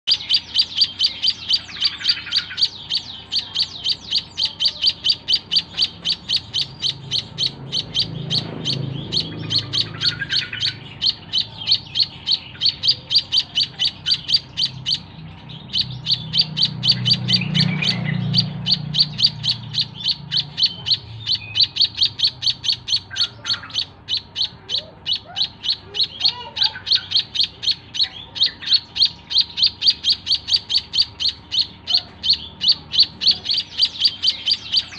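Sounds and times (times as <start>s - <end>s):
bird chick chirping: 0.0s - 34.9s.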